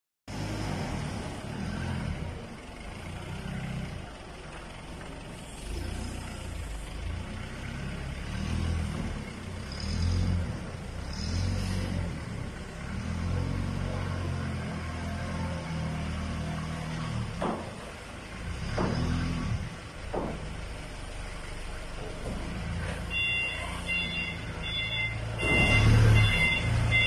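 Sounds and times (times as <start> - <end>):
forklift engine revving: 0.3 - 27.0.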